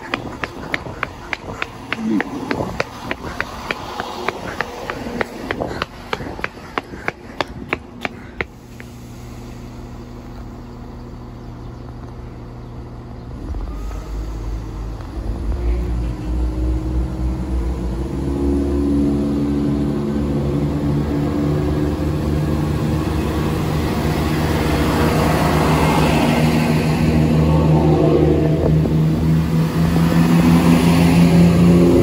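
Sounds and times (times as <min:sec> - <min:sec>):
train diesel engines rumbling: 0:00.0 - 0:32.0.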